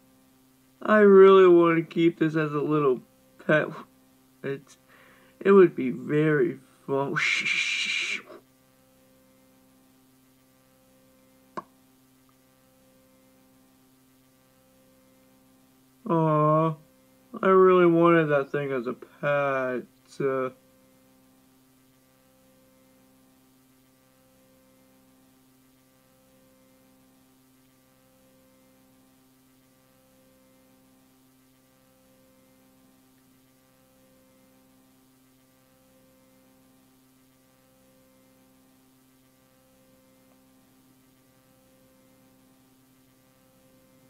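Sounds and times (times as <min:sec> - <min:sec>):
faint low pulsing hum: 0:00.0 - 0:44.0.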